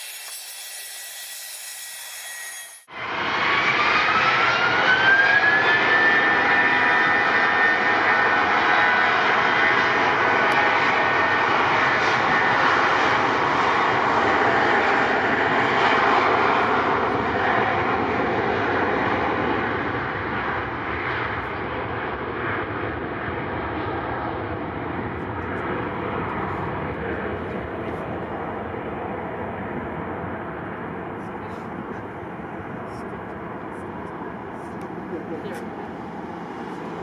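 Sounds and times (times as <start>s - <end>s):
jet engines roaring on takeoff: 2.7s - 37.0s.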